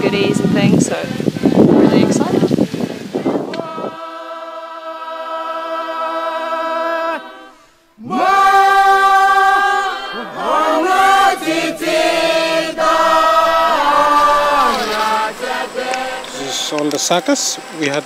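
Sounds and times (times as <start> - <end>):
choir singing in harmony: 0.0 - 18.0.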